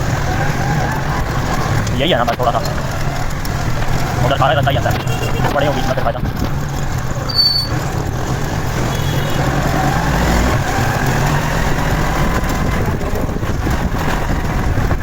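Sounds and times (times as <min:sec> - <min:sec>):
motorcycle engine running: 0:00.0 - 0:15.0
wind noise: 0:00.0 - 0:15.0.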